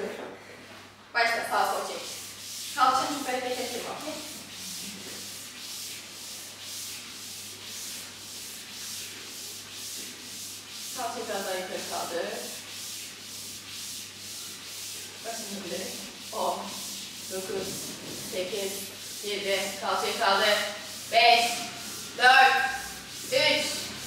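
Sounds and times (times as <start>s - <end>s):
feet sliding on slide board: 1.9s - 24.0s.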